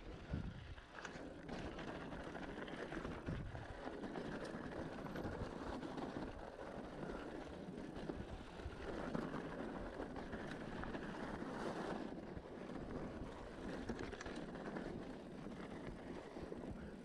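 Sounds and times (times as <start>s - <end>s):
bike tyres on loose dirt: 0.0s - 17.0s
bike rattling and clicking: 0.1s - 17.0s.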